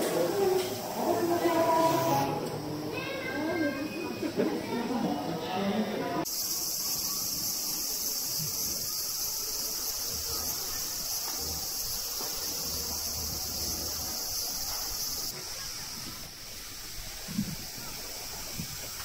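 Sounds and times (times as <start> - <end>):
cicadas buzzing: 0.0 - 4.2, 6.2 - 19.0.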